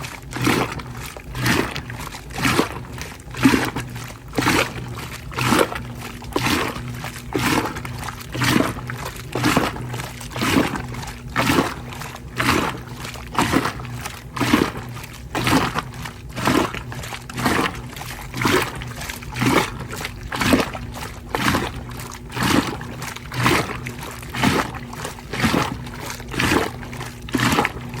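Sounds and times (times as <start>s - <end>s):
motor hum: 0.0s - 28.0s
water sloshing in washing machine: 0.0s - 28.0s.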